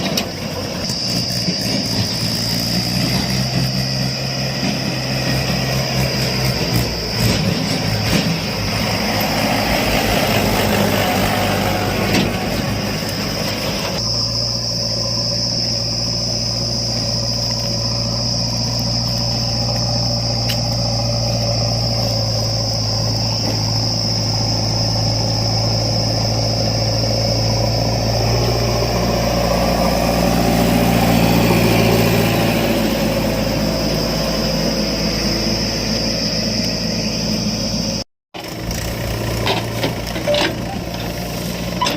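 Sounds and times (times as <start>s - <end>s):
continuous high-pitched tone: 0.0s - 38.0s, 39.4s - 41.9s
diesel engines running: 0.0s - 41.9s.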